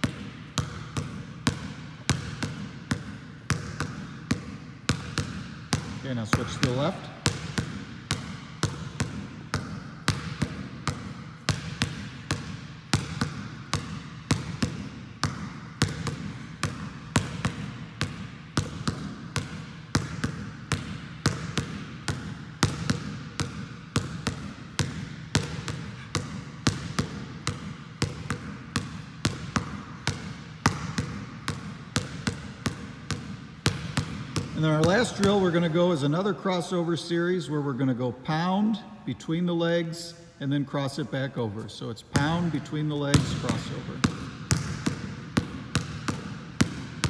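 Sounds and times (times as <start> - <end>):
basketball bouncing on gym floor: 0.0 - 36.5, 42.1 - 47.0.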